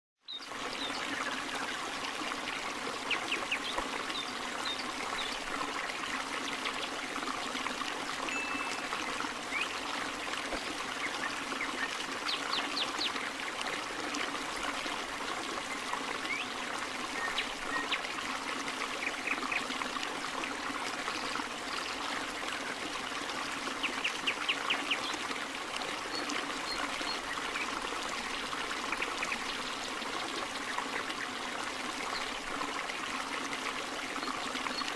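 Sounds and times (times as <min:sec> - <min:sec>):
stream water trickling: 0:00.2 - 0:34.9.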